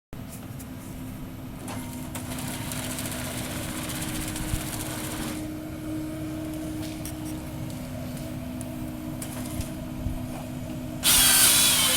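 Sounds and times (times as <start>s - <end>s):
diesel engine running: 0.2s - 11.9s.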